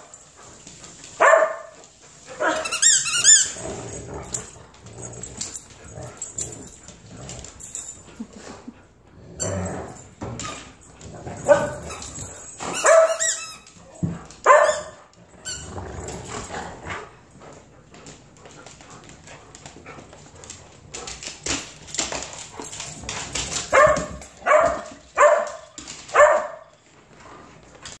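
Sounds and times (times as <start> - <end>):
dogs scuffling: 0.0 - 8.7, 9.3 - 28.0
dogs barking in play: 0.0 - 17.6, 19.7 - 26.8.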